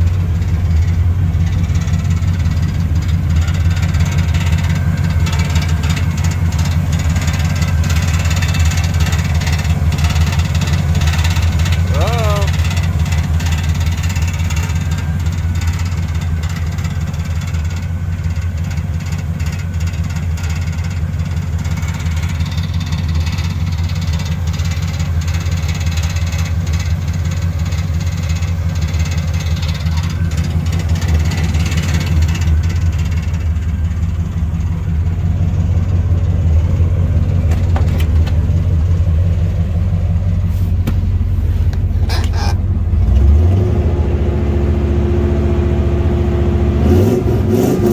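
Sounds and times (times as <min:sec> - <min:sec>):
pickup truck engine idling: 0:00.0 - 0:43.1.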